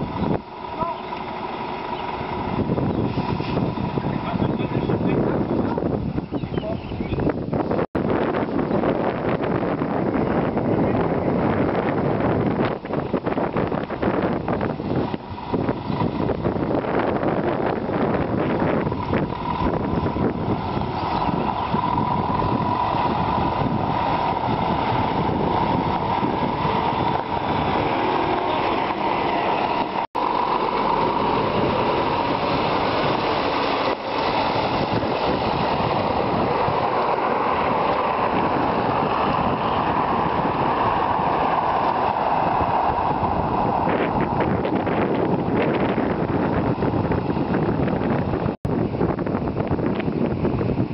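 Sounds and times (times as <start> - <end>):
truck diesel engine running: 0.0 - 6.4, 7.3 - 50.9
wind buffeting microphone: 0.0 - 50.9.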